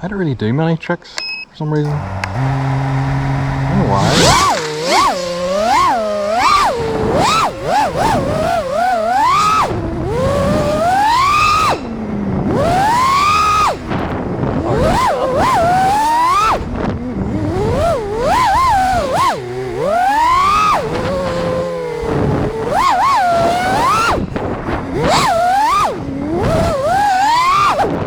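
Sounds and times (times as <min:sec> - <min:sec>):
drone motors whining: 0:01.7 - 0:28.0.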